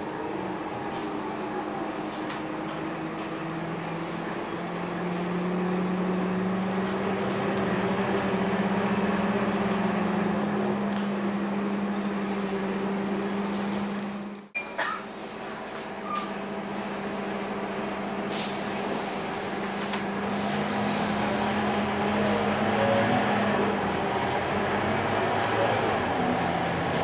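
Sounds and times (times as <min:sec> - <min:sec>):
bus engine humming: 0:00.0 - 0:27.0.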